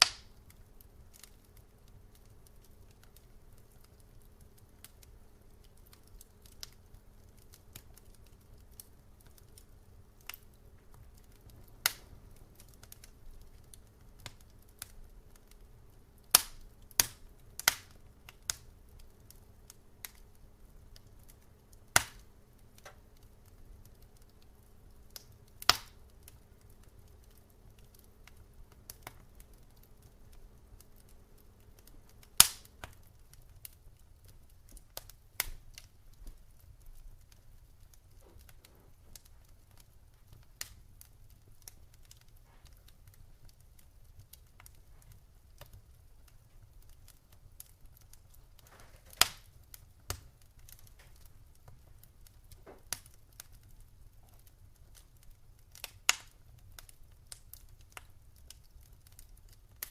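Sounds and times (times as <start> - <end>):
faint low hum: 0.0 - 59.8
wood fire crackling and popping: 0.0 - 59.9.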